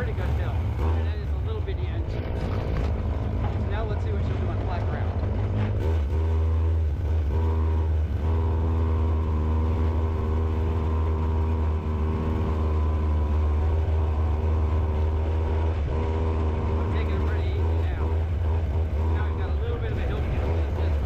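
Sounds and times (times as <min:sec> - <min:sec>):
two-stroke engine at high revs: 0:00.0 - 0:21.0.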